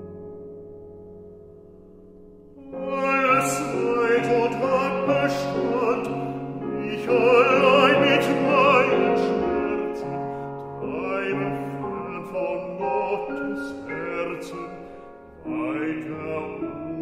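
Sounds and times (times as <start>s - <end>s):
piano accompaniment: 0.0s - 17.0s
bass-baritone voice singing: 2.6s - 17.0s.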